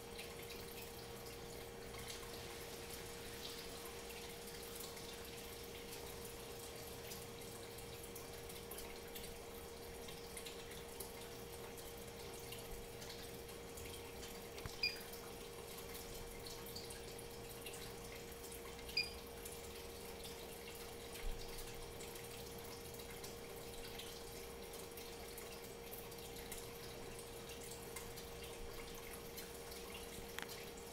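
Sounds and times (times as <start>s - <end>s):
electrical hum: 0.0s - 30.9s.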